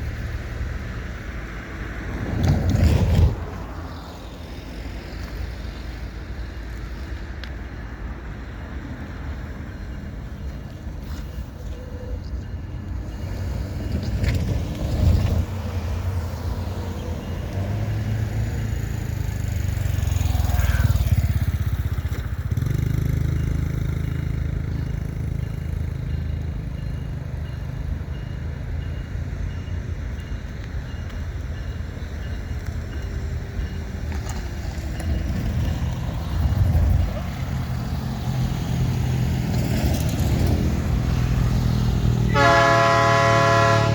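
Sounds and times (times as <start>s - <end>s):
diesel locomotive engine rumbling: 0.0s - 43.9s.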